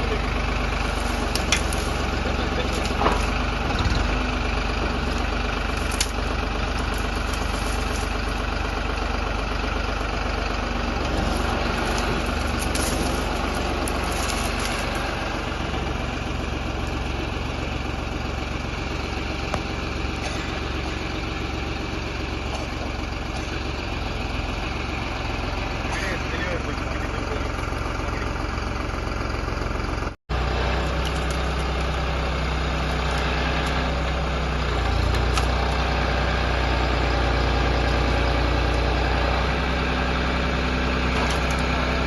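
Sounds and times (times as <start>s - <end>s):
heavy machine engine running: 0.0s - 42.0s.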